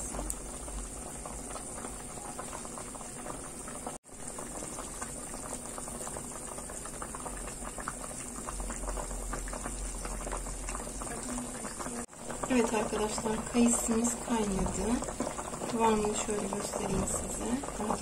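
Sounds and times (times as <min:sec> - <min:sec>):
jam bubbling in a pot: 0:00.0 - 0:18.0.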